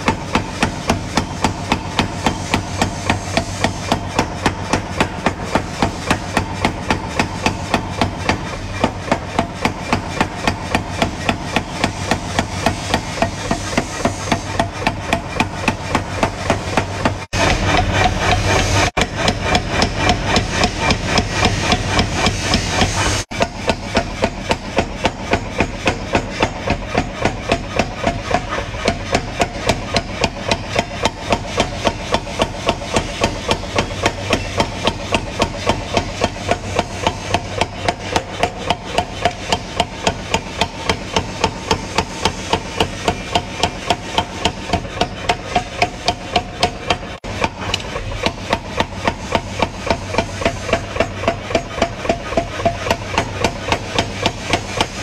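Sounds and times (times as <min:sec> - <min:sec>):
power hammer pounding hot steel: 0:00.0 - 0:55.0.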